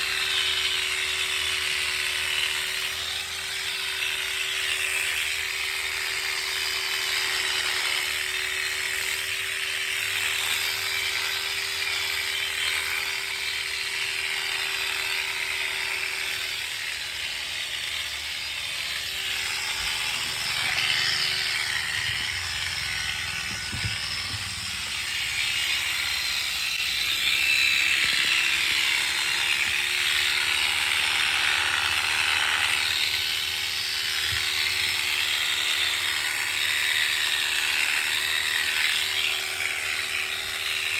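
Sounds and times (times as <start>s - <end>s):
electric clippers running: 0.0s - 40.9s.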